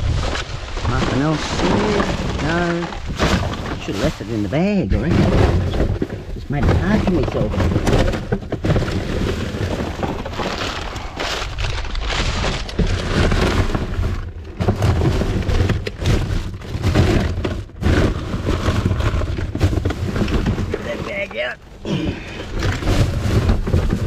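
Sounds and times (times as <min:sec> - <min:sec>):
rubbish bags rustling: 0:00.0 - 0:24.0.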